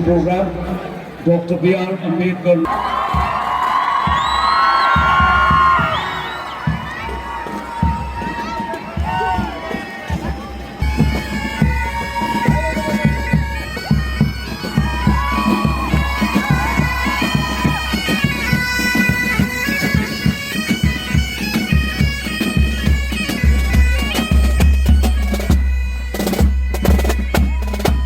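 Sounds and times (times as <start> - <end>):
drum beats: 2.7 - 28.0
bagpipes playing melody: 5.3 - 28.0.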